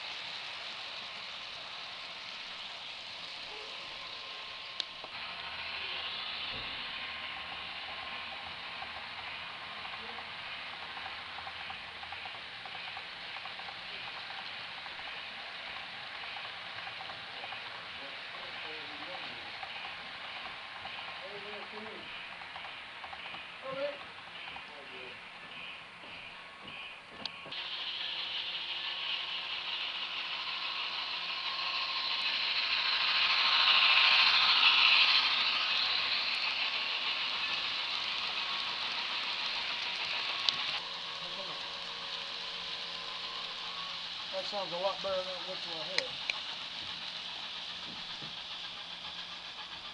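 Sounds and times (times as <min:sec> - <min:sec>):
model train rattling and whirring: 0:00.0 - 0:49.9
steady hiss: 0:00.0 - 0:49.9
wheels clicking over rail joints: 0:00.0 - 0:49.9.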